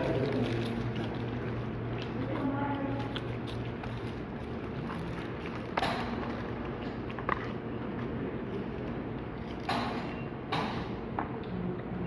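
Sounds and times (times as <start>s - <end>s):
restaurant dining room background noise: 0.0s - 12.0s.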